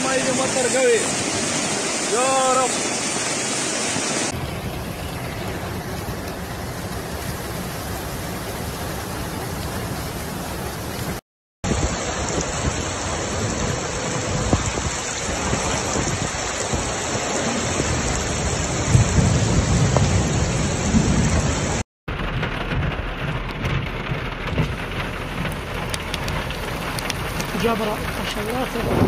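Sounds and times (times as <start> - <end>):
heavy rain and floodwater rushing: 0.0 - 29.0.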